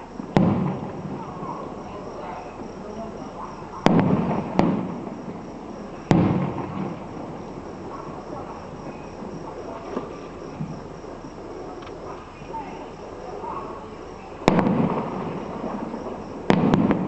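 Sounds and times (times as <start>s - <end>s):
fireworks bangs with echo: 0.0s - 11.4s, 14.3s - 17.0s
faint fireworks pops: 0.0s - 17.0s.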